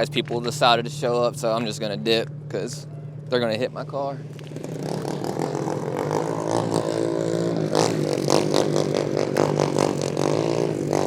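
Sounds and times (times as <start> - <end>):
car engine driving off: 0.0 - 11.0.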